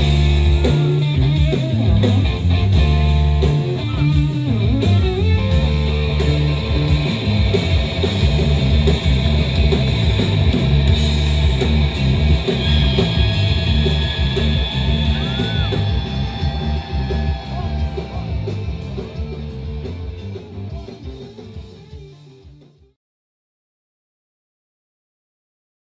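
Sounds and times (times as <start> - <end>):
live rock band playing: 0.0 - 22.8.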